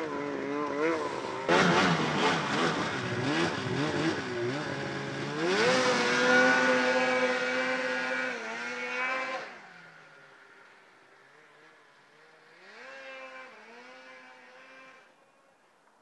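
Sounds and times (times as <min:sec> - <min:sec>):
snowmobile engine revving: 0:00.0 - 0:15.5.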